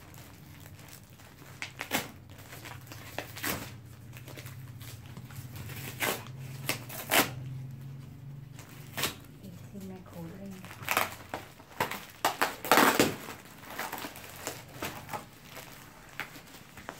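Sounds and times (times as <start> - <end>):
cardboard and tape tearing: 0.0 - 7.9, 8.6 - 16.9
low steady hum: 0.0 - 16.9
plastic crinkling: 0.0 - 16.9.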